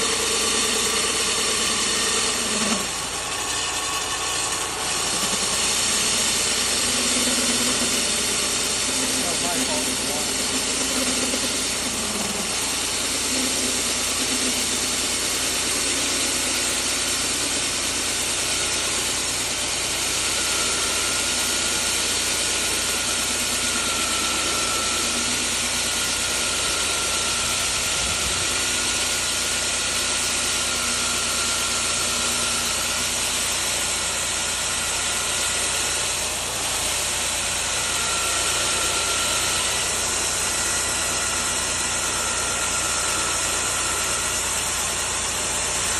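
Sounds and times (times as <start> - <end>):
core drill motor running: 0.0 - 45.9.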